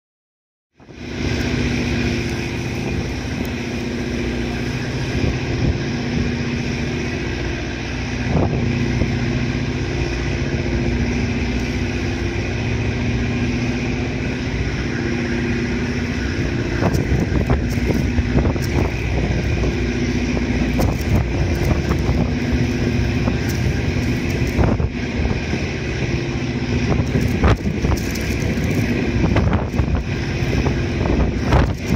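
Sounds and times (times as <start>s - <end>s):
ship engine rumbling: 0.8s - 31.9s.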